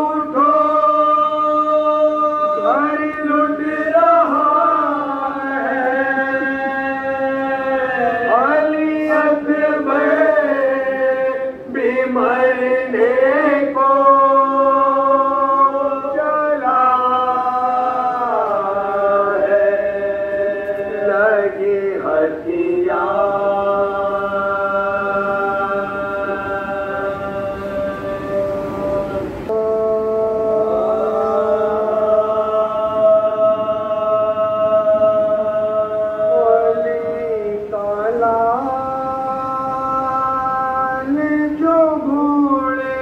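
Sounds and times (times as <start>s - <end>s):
men chanting a lament: 0.0s - 43.0s.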